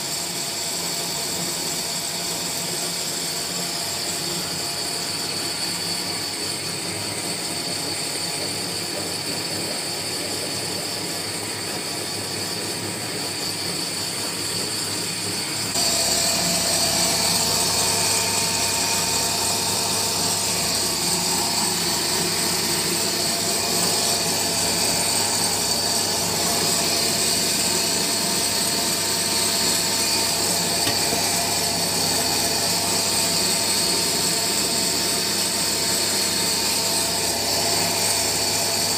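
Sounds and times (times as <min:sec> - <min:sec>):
pellet mill drone and whine: 0:00.0 - 0:38.9.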